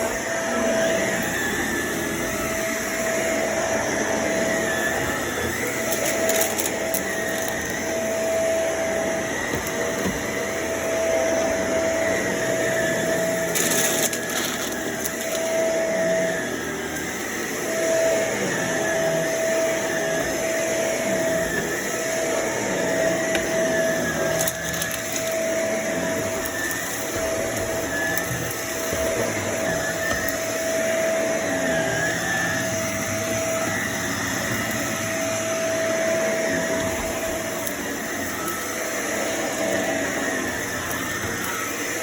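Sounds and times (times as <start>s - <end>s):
vacuum cleaner whining: 0.0s - 42.0s.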